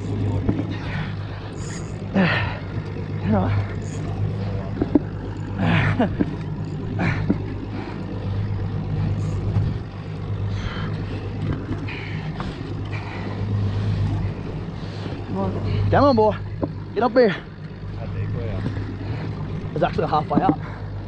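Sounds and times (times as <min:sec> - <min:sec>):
boat engine humming: 0:00.0 - 0:21.0
water noise: 0:00.0 - 0:21.0
wind: 0:00.0 - 0:21.0.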